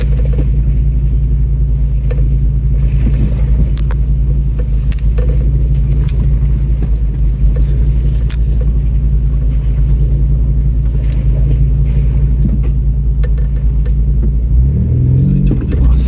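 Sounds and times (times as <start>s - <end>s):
knocks and clunks over rocks: 0.0s - 0.8s, 2.0s - 14.4s
truck engine low rumble: 0.0s - 16.0s.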